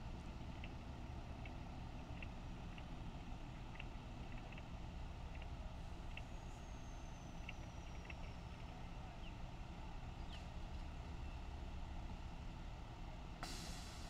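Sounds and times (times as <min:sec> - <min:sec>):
vehicle engines idling: 0:00.0 - 0:14.0.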